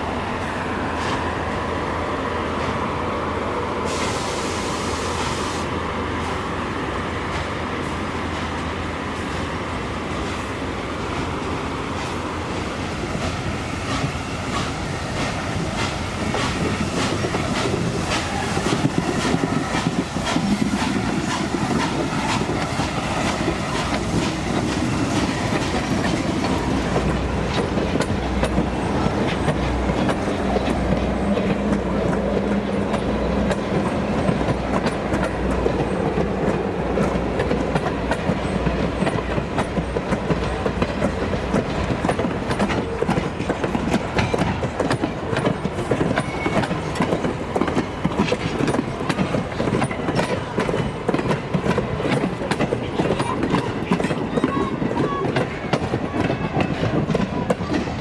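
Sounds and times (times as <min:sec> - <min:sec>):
train rumble: 0:00.0 - 0:58.0
train wheels clicking over rail joints: 0:07.2 - 0:58.0.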